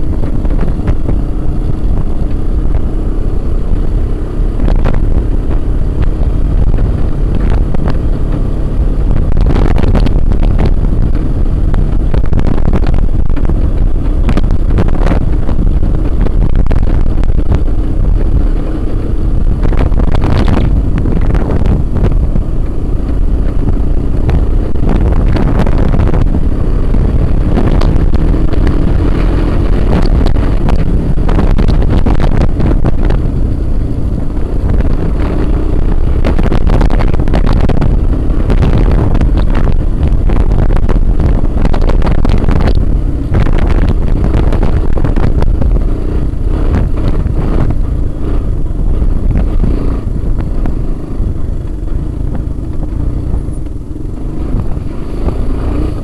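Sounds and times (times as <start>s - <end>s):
atv engine running: 0.0s - 56.0s
wind on microphone: 0.0s - 56.0s.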